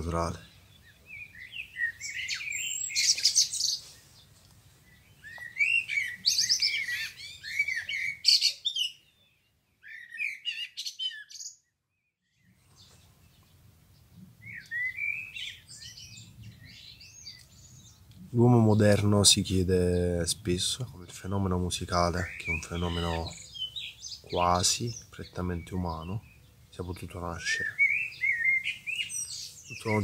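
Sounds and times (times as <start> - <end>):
songbirds chirping and warbling: 0.0 - 30.0.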